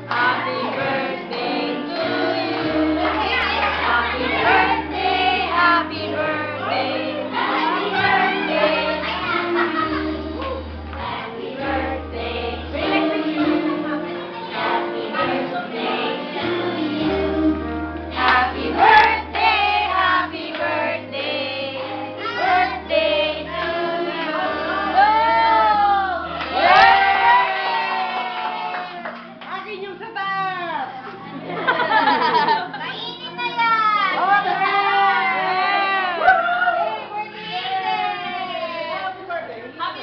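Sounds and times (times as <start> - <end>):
group singing a birthday song: 0.0 - 29.0, 31.3 - 32.6, 34.1 - 36.2.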